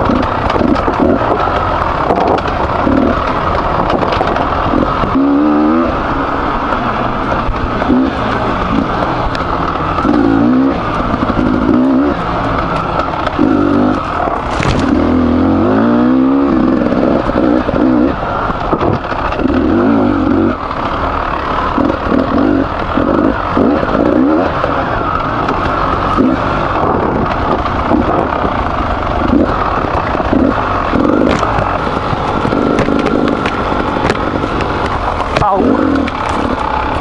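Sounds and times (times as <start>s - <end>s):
two-stroke motorbike engine revving: 0.0s - 37.0s.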